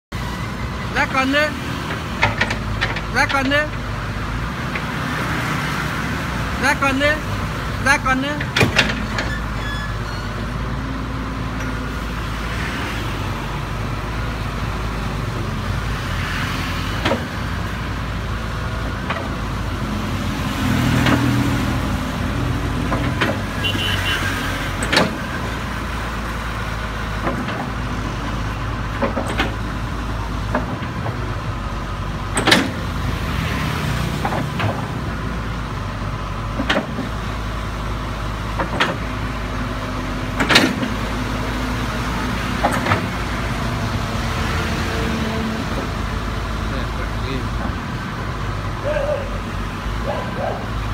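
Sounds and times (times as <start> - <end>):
excavator diesel engine running: 0.1 - 50.9.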